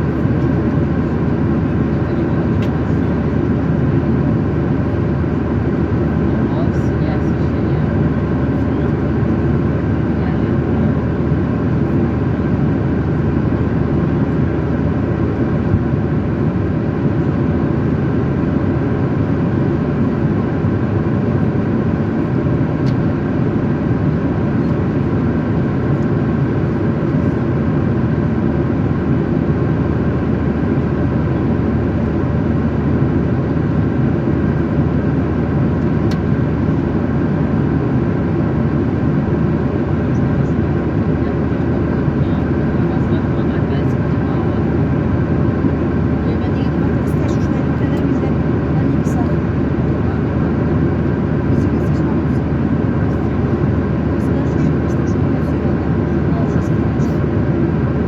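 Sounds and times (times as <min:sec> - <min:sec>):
jet engine cabin noise: 0:00.0 - 0:58.0.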